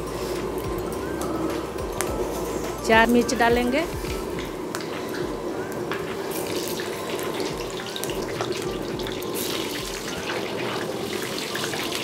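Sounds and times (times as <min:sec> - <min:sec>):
oil sizzling with crackles: 0:00.0 - 0:12.0.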